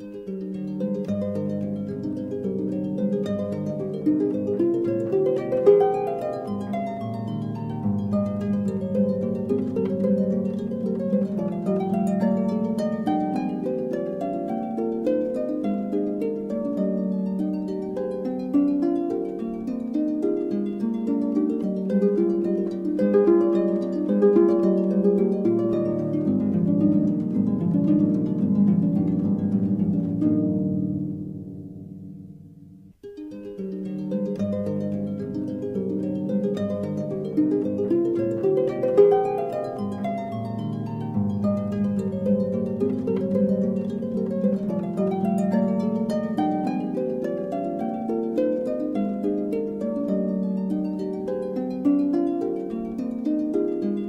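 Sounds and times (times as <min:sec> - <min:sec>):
harp music: 0:00.0 - 0:54.0.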